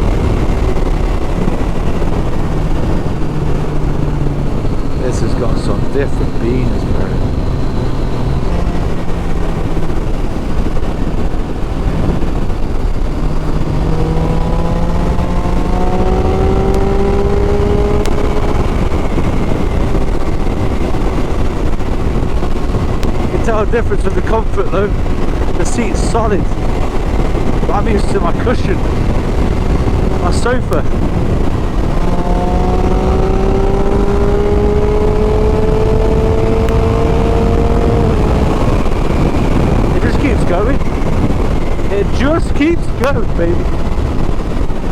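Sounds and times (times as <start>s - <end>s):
motorcycle engine running: 0.0s - 44.9s
wind rushing over microphone: 0.0s - 44.9s.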